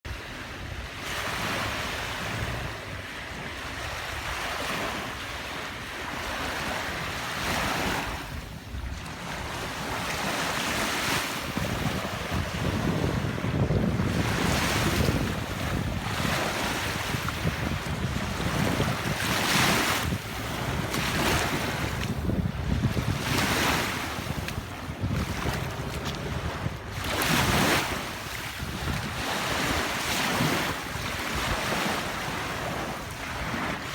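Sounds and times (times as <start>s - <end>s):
waves washing onto a beach: 0.1s - 33.9s
wind buffeting microphone: 0.1s - 33.9s.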